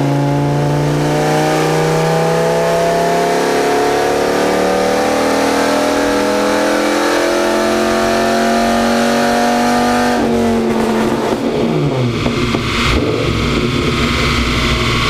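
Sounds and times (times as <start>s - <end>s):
engine revving at full throttle: 0.0s - 15.0s.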